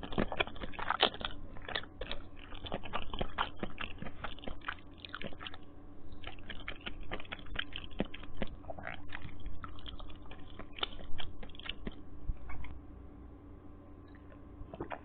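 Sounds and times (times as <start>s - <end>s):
wet chewing clicks and smacks: 0.0s - 12.8s, 14.1s - 15.0s.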